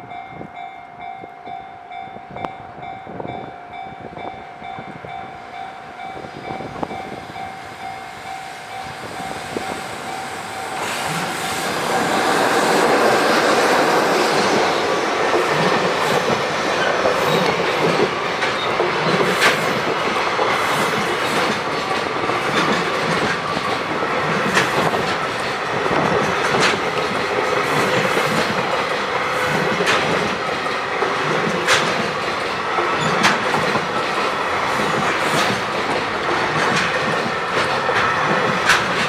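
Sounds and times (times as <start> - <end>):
train wheels clacking on rails: 5.6 - 39.0.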